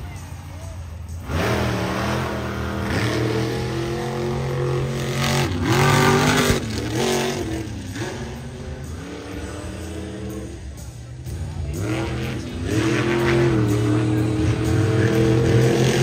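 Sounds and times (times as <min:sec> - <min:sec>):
truck engine revving hard: 0:01.1 - 0:16.0.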